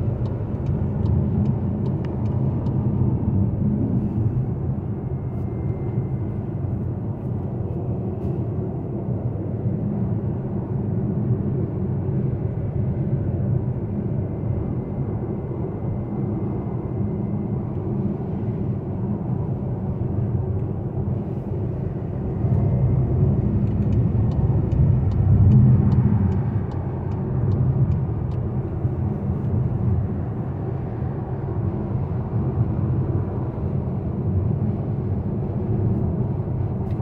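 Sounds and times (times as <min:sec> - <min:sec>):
car cabin road rumble: 0:00.0 - 0:11.6, 0:17.1 - 0:37.0.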